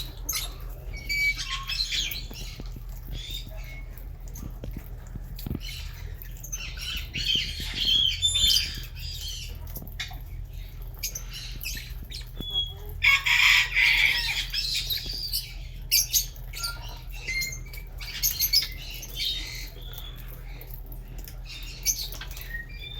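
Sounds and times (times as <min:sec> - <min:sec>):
lovebirds chirping and squawking: 0:00.0 - 0:22.9.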